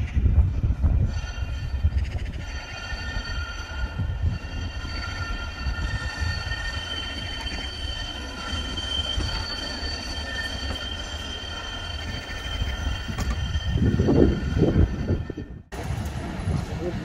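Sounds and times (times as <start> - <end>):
train wheels squealing: 0.0 - 15.6
low rumble of train: 0.0 - 17.0.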